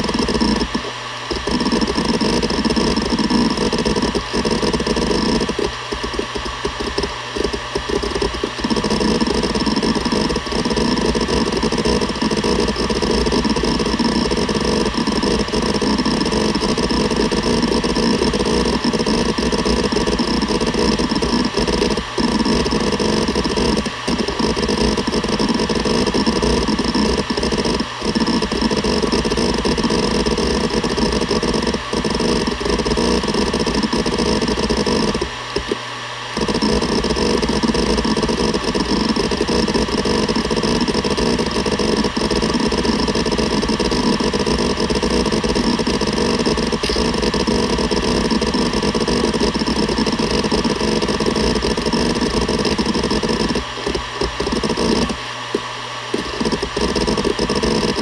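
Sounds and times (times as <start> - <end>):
hard drive head clattering: 0.0 - 58.0
hard drive spindle whine: 0.0 - 58.0.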